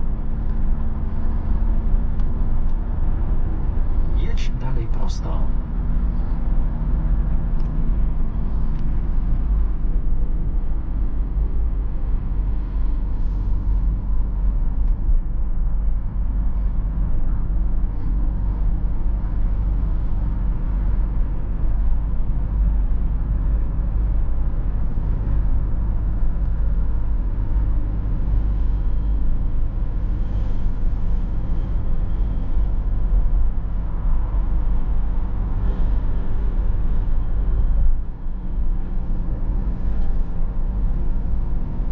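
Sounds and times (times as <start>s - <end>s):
diesel car engine and tyres rumbling: 0.0s - 41.9s.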